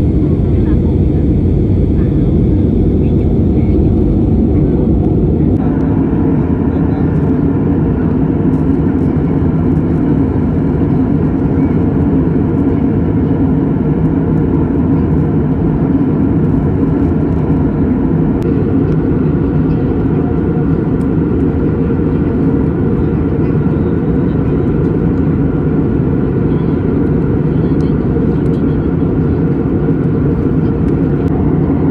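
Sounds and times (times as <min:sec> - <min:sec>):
airplane engine drone: 0:00.0 - 0:31.9.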